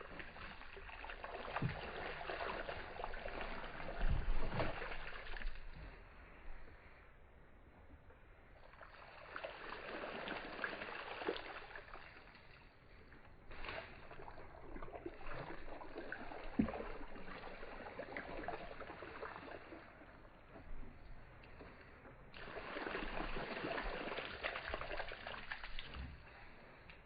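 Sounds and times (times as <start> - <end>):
water pouring onto soil: 0.0 - 6.0, 8.6 - 27.0
light crackle of soaking soil: 0.0 - 27.0.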